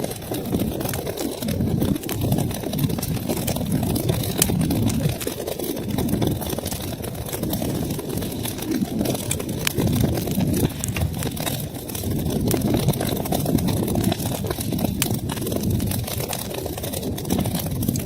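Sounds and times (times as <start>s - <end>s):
burning wood crackling and popping: 0.0s - 18.0s
fire flames rumbling: 0.0s - 18.0s.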